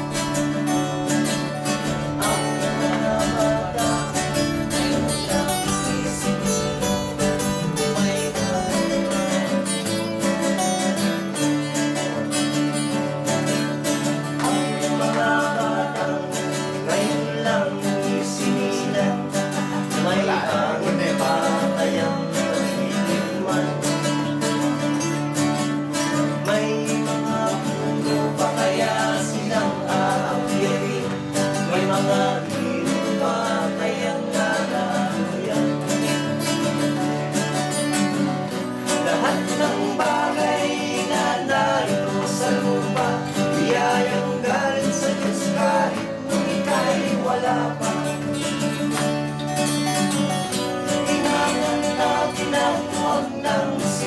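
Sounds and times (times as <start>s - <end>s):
acoustic guitars strumming: 0.0s - 54.0s
men singing: 0.0s - 54.0s.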